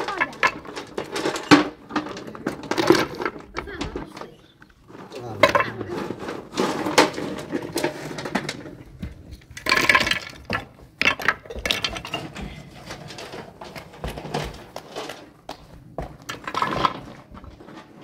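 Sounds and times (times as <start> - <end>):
stones and concrete blocks clattering: 0.0 - 18.0.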